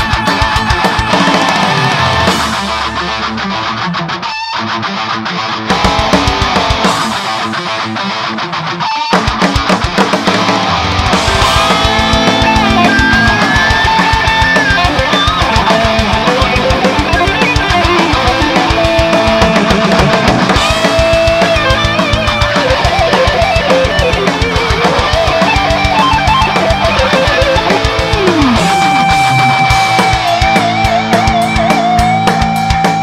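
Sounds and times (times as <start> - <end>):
drum kit: 0.0 - 4.2, 5.6 - 33.0
distorted guitars: 0.0 - 33.0
lead guitar with vibrato: 0.0 - 33.0.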